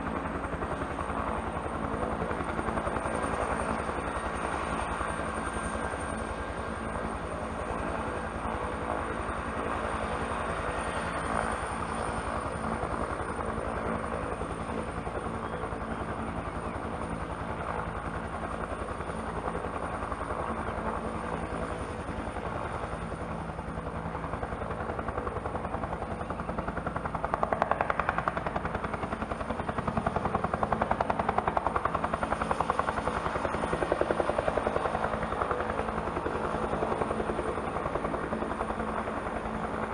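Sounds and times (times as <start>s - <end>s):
helicopter rotor beat: 0.0s - 39.9s
helicopter turbine whine: 0.0s - 39.9s.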